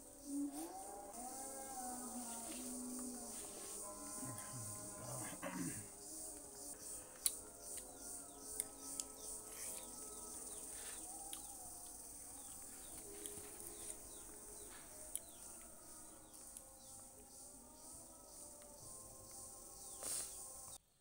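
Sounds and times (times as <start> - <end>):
faint wavering tones: 0.0 - 20.8
insect chirring: 0.0 - 20.8.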